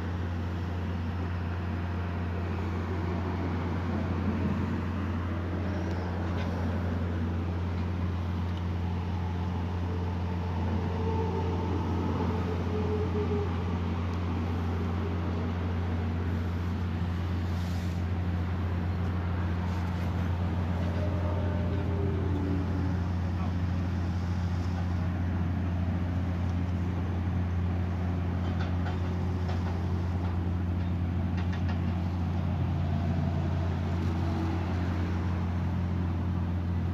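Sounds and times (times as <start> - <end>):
engine humming steadily: 0.0 - 36.9.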